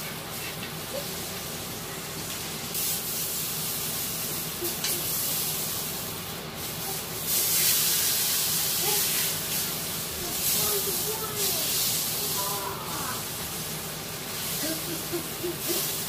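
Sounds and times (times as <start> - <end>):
steak sizzling in a pan: 2.1 - 16.0.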